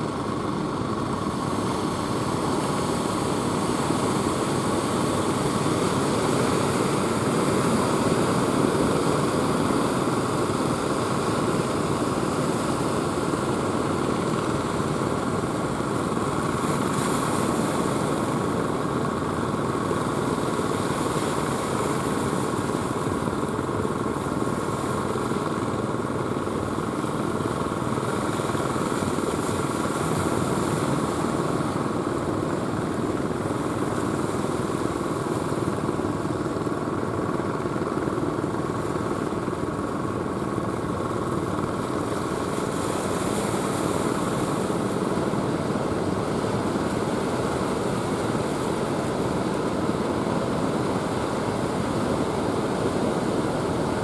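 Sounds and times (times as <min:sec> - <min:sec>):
surf washing: 0:00.0 - 0:54.0.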